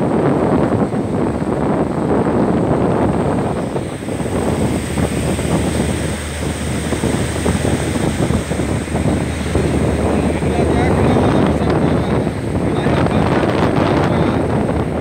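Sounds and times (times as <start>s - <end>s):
ship engine drone: 0.0s - 15.0s
water churning along hull: 0.0s - 15.0s
wind buffeting microphone: 0.0s - 15.0s.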